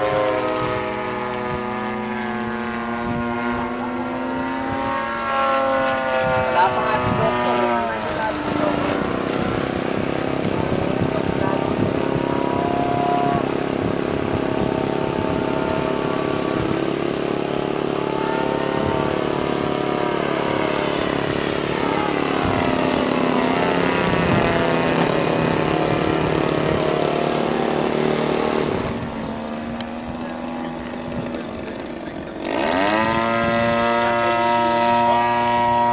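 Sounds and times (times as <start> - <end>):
model airplane engine: 0.0 - 35.9.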